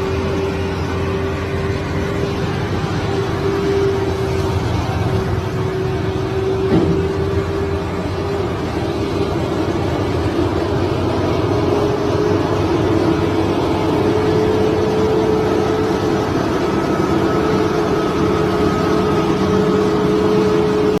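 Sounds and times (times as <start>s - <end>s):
diesel engine rumble: 0.0s - 21.0s
steady whine: 0.0s - 21.0s.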